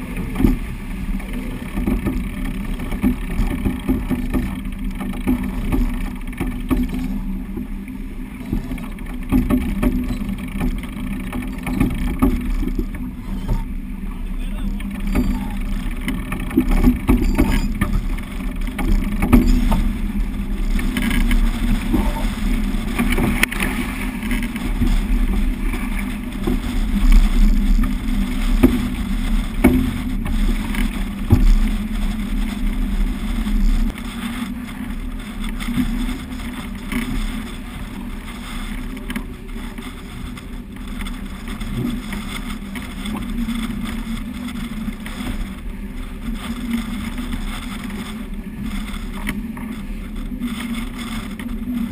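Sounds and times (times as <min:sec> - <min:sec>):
water splashing along a hull: 0:00.0 - 0:51.9
wind buffeting microphone: 0:00.0 - 0:51.9.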